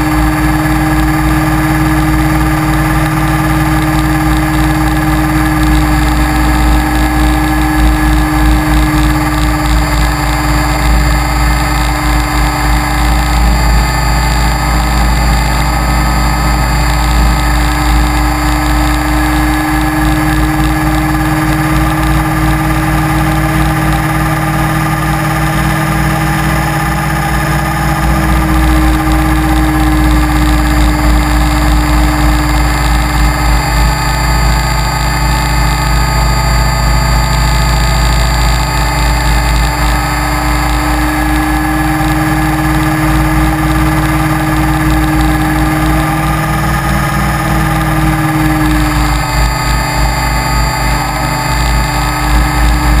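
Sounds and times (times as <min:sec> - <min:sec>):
rc helicopter motor whine: 0:00.0 - 0:53.0.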